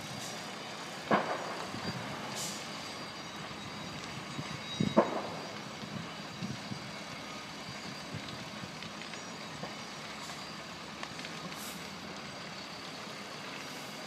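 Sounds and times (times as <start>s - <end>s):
truck engines idling: 0.0s - 14.0s.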